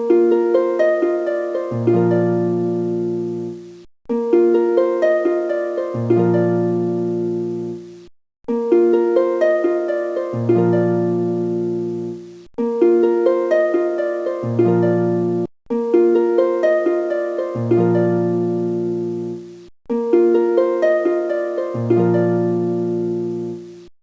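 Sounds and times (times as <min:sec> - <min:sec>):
plucked-string melody: 0:00.0 - 0:23.9.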